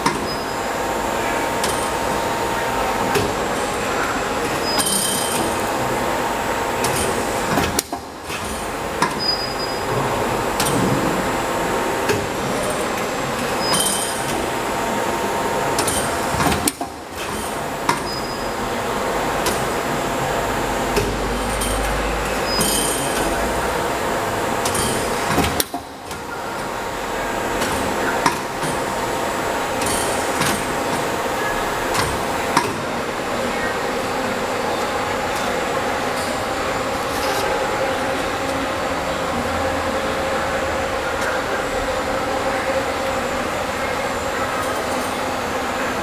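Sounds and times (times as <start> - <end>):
punching machine running hum: 0.0 - 46.0.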